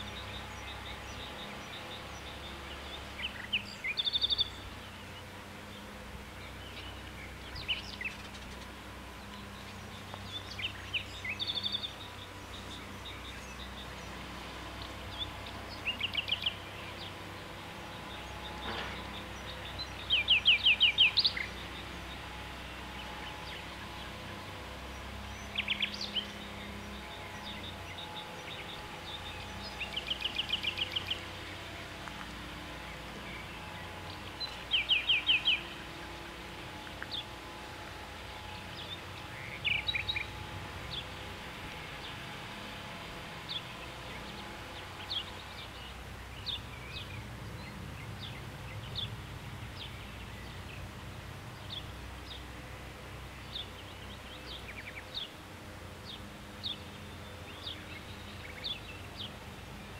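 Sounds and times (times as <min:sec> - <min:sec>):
outdoor background hum: 0:00.0 - 0:59.9
songbirds singing: 0:00.0 - 0:59.9.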